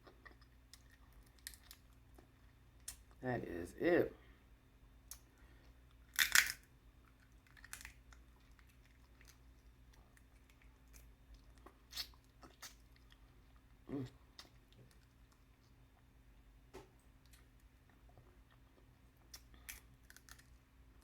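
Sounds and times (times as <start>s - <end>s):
crunching and chewing food: 0.0s - 3.2s, 4.8s - 21.0s
faint steady hum: 0.0s - 21.0s.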